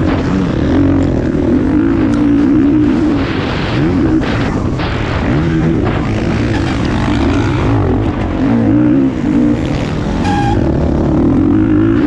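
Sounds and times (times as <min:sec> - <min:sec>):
motocross bike engine revving: 0:00.0 - 0:12.0
wind noise: 0:00.0 - 0:12.0.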